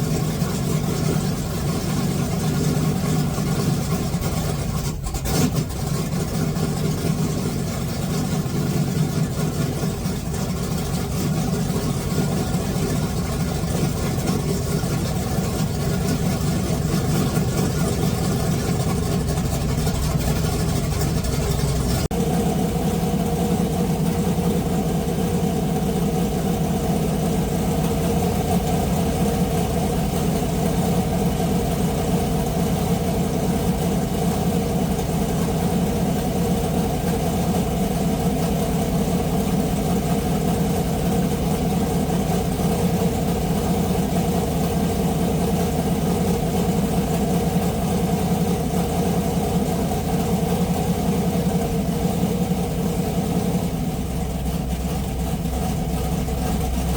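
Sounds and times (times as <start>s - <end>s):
race car engine idling: 0.0s - 56.9s.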